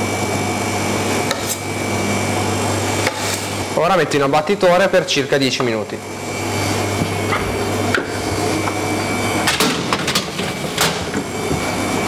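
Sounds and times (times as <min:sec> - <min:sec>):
chiller fan hum: 0:00.0 - 0:12.0.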